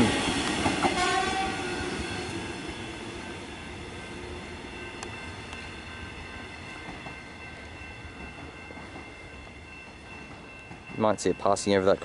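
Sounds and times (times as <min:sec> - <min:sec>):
electric train pulling away: 0:00.0 - 0:12.0.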